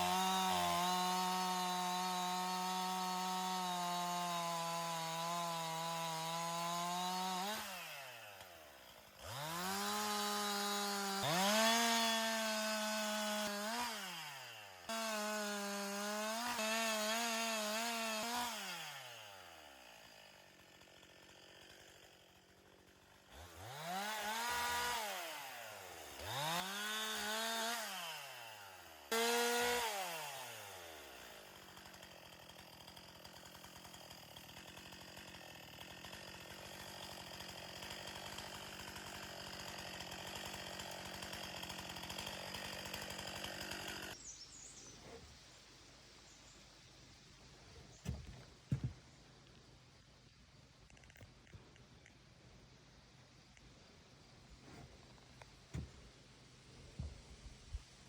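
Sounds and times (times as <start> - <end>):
chainsaw revving and idling: 0.0 - 45.3, 47.7 - 49.0.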